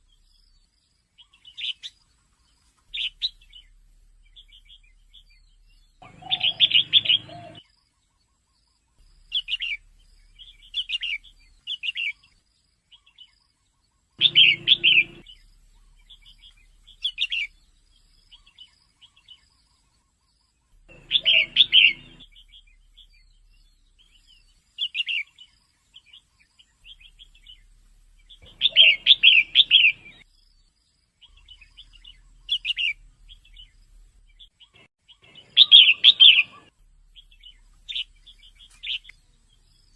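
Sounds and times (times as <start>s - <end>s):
bulbul chattering calls: 2.9s - 8.5s, 9.3s - 12.3s, 14.2s - 30.3s, 31.2s - 33.8s, 34.4s - 39.9s.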